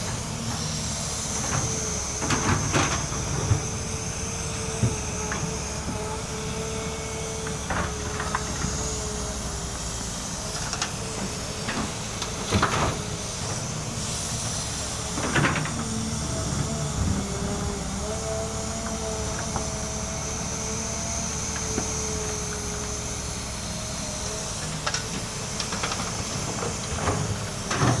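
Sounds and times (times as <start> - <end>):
excavator diesel engine rumbling: 0.0 - 28.0
hydraulics hissing and whining: 0.0 - 28.0.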